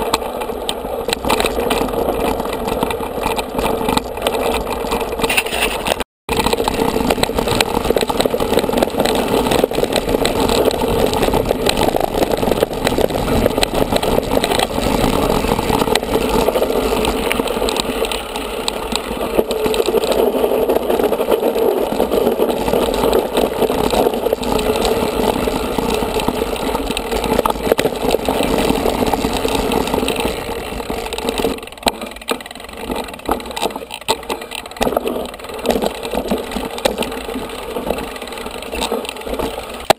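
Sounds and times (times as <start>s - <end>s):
bike clicks and rattles: 0.0s - 39.9s
bike tyres rumbling on dirt: 0.0s - 39.9s.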